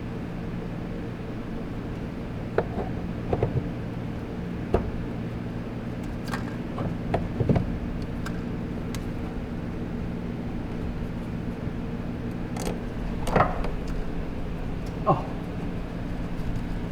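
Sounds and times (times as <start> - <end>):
steady mechanical hum: 0.0 - 16.9.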